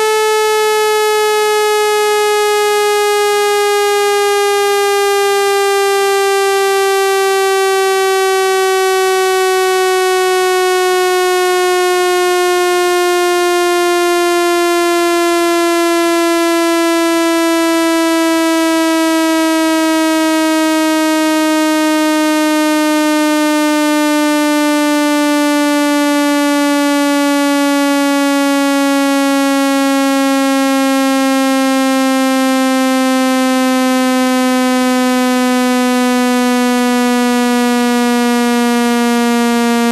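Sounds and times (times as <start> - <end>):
buzzy synthesized tone sliding down: 0.0 - 39.9.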